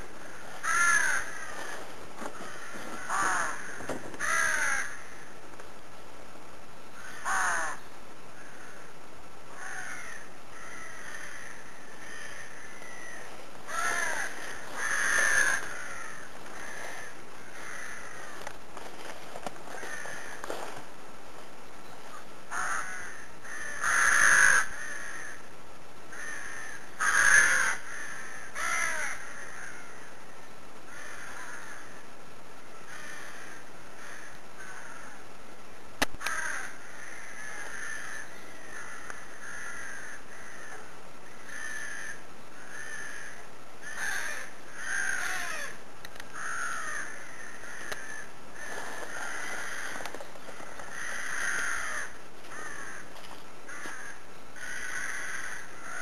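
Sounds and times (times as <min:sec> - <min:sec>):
crows cawing: 0:00.2 - 0:05.4, 0:06.9 - 0:20.9, 0:22.1 - 0:25.5, 0:26.1 - 0:32.1, 0:32.7 - 0:35.3, 0:36.2 - 0:56.0.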